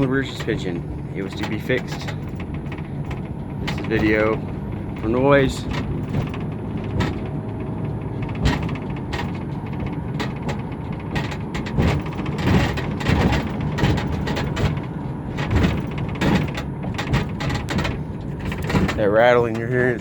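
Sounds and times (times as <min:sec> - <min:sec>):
ramp rattling and knocking: 0:00.0 - 0:20.0
road rumble inside van: 0:00.0 - 0:20.0.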